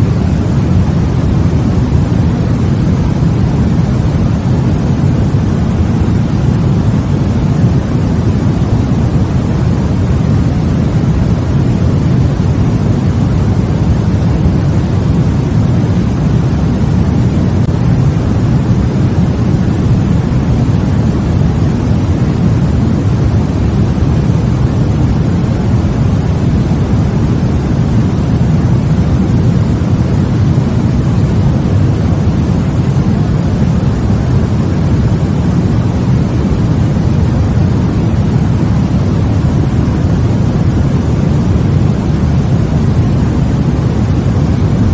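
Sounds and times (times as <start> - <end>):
deep rumbling white noise: 0.0 - 44.9.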